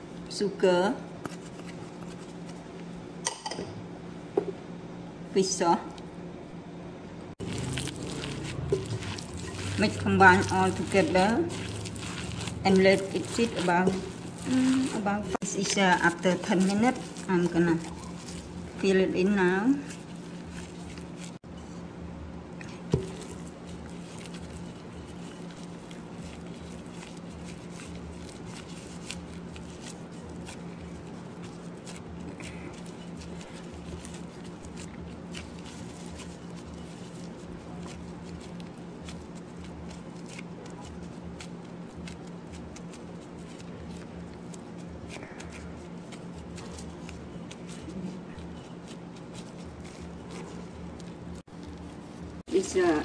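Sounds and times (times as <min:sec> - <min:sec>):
gloved hands squishing filling: 0:07.4 - 0:21.4, 0:22.6 - 0:53.0.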